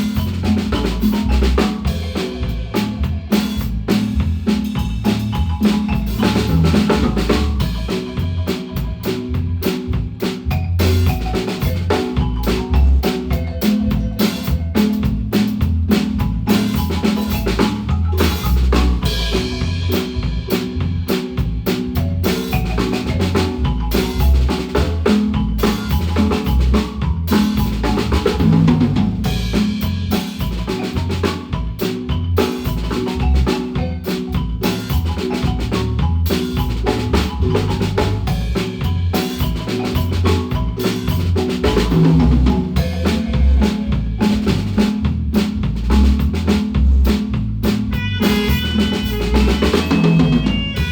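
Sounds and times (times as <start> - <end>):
deep bass notes: 0.0 - 50.9
drum kit: 0.0 - 50.9
marimba: 0.0 - 50.9.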